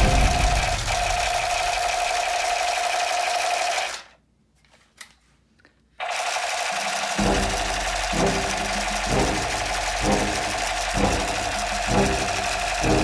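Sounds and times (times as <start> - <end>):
toy gun rapid-fire sound effect: 0.0 - 4.2, 6.0 - 13.0.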